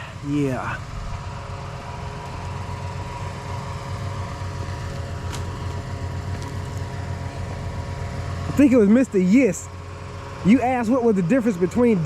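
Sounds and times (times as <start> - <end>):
tractor engine humming: 0.0 - 11.5.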